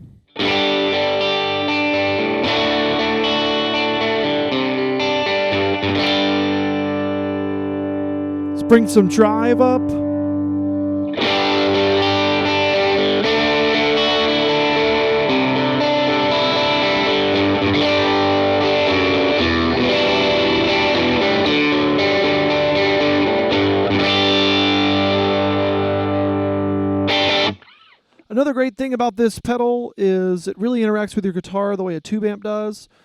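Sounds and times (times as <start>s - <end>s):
overdriven electric guitar chords: 0.4s - 27.7s.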